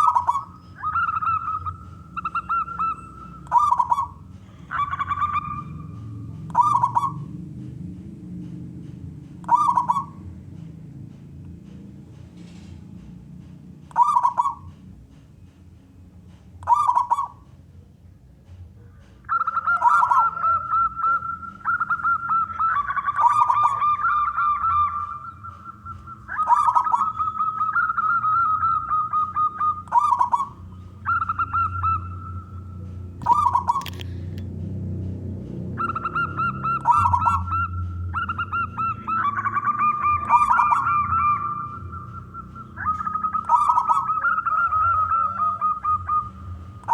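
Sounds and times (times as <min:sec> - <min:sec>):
dove cooing: 0:00.0 - 0:07.9, 0:09.4 - 0:11.1, 0:13.9 - 0:14.8, 0:16.6 - 0:17.5, 0:19.0 - 0:34.4, 0:35.6 - 0:46.9.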